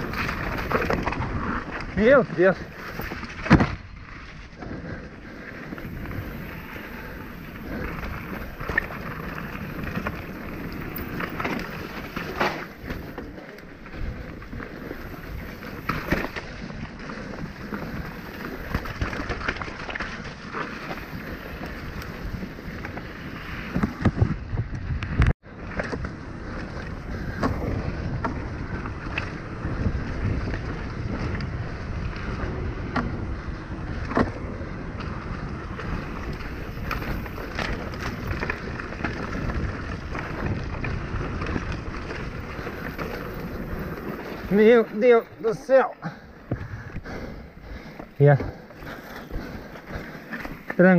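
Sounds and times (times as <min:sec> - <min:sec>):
bike rattles and knocks: 0:00.0 - 0:04.8, 0:05.7 - 0:47.1
tyres rolling over dirt: 0:00.0 - 0:50.9.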